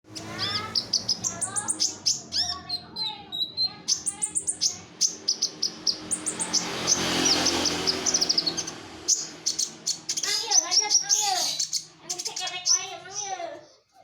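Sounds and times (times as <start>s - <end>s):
songbird singing: 0.0s - 13.4s.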